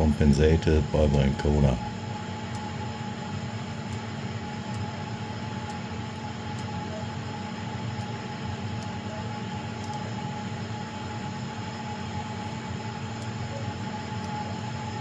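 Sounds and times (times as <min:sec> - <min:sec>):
constant machine whine: 0:00.0 - 0:15.0
machine hum and hiss: 0:00.0 - 0:15.0.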